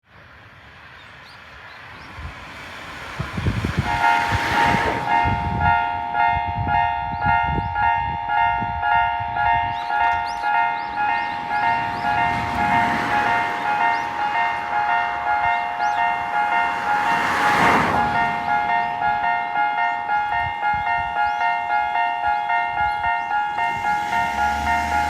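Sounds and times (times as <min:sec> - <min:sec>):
level crossing warning bell: 0:03.6 - 0:25.0.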